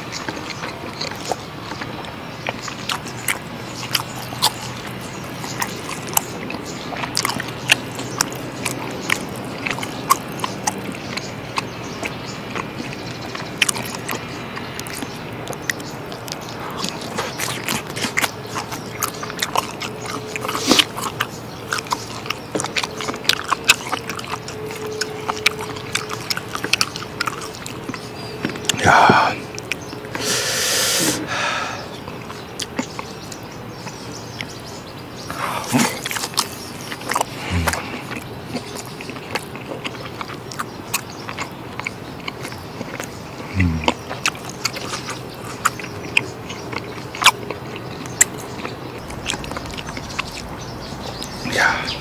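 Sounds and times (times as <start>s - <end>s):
sharp mouth clicks: 0.0s - 34.6s, 35.2s - 52.0s
chewing steak: 0.0s - 52.0s.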